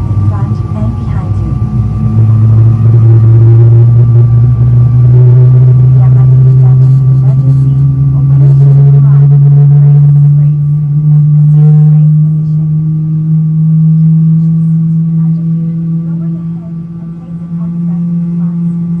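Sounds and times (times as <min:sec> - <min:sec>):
jet engines humming in cabin: 0:00.0 - 0:19.0.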